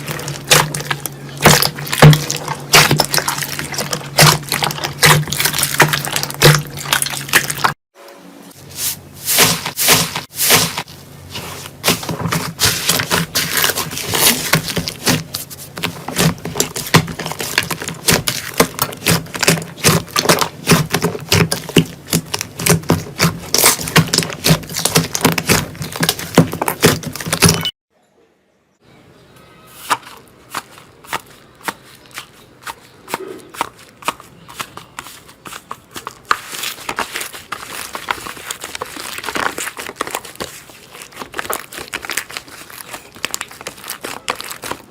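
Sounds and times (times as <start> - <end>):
slime squished crackling and popping: 0.0 - 7.8, 11.8 - 27.7, 30.5 - 44.9.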